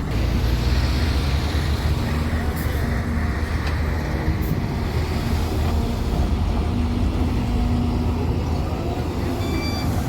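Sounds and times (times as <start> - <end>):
heavy diesel engines running: 0.0 - 10.0.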